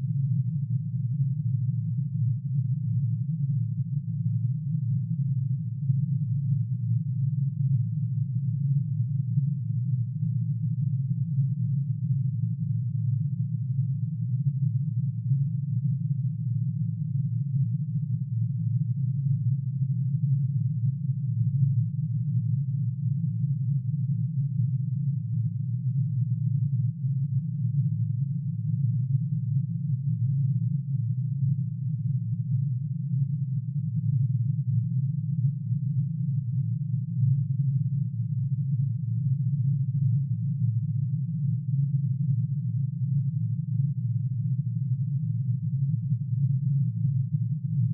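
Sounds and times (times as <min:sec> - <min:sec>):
low dense synthesized hum: 0:00.0 - 0:47.9.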